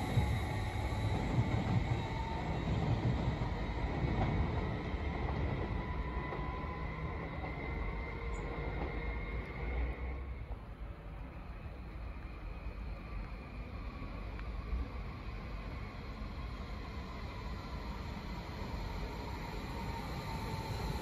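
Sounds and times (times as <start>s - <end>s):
train wheel-on-rail rumble: 0.0s - 21.0s.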